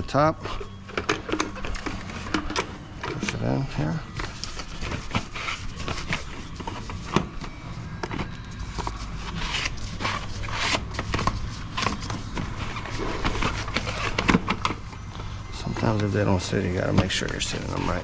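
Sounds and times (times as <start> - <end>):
low steady hum: 0.0 - 18.0
rustling: 0.0 - 18.0.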